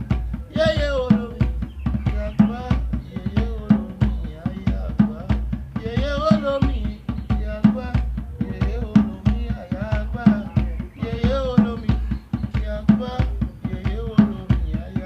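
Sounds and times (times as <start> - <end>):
hand drums playing rhythm: 0.0 - 15.0
person singing: 0.0 - 15.0.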